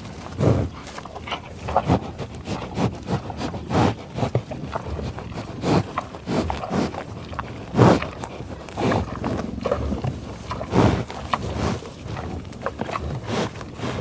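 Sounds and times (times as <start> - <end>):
bison grunting: 0.0 - 14.0
sniffing breaths: 0.0 - 14.0.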